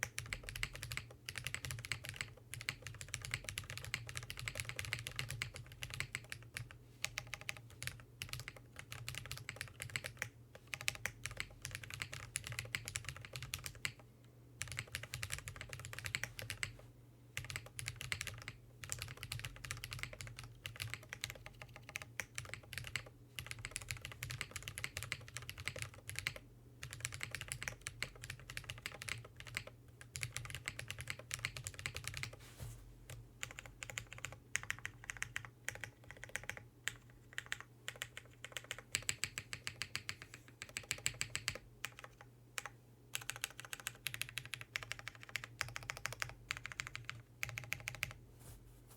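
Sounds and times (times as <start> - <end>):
mechanical keyboard typing: 0.0 - 14.0, 14.6 - 16.8, 17.4 - 32.4, 33.1 - 48.2.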